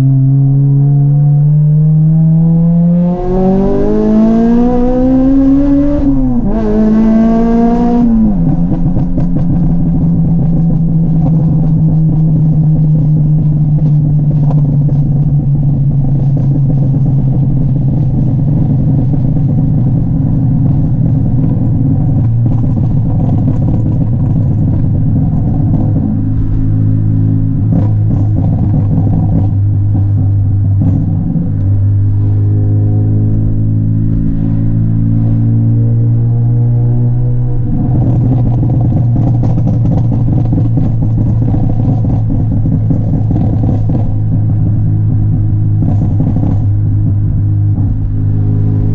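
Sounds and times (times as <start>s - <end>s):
car engine running: 0.0s - 48.9s
exhaust cracks: 3.0s - 48.9s.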